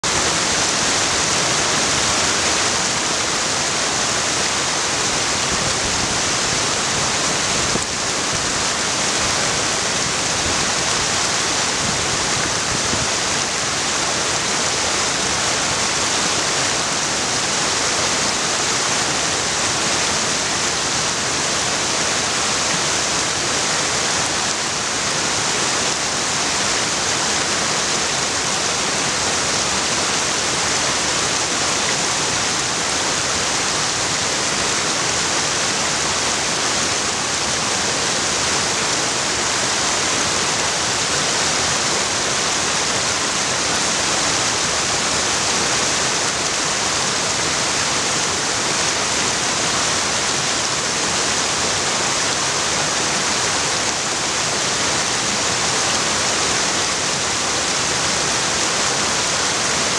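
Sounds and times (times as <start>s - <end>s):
water rushing over rocks: 0.0s - 59.9s.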